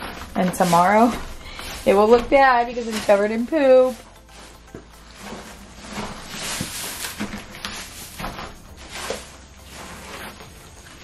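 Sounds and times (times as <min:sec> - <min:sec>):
wood shavings rustling underfoot: 0:00.0 - 0:11.0.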